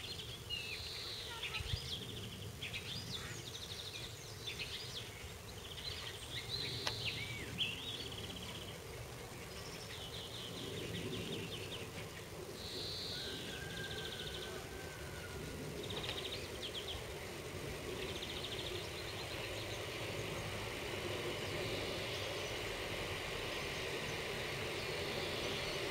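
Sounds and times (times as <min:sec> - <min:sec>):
distant diesel railcar rumble: 0:00.0 - 0:25.9
songbirds chirping and trilling: 0:00.0 - 0:25.9.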